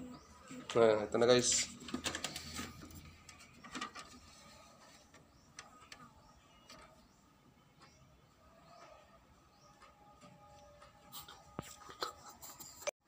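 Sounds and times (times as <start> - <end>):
printer mechanism running: 0.0 - 11.5.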